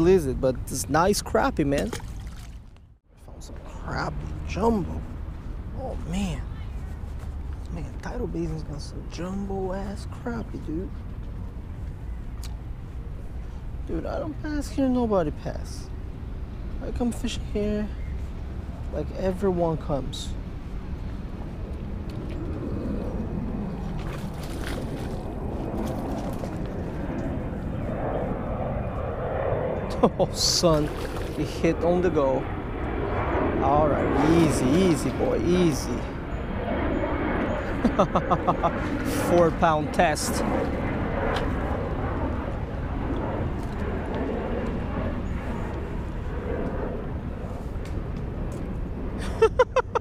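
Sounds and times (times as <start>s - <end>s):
low outdoor rumble: 0.0s - 50.0s.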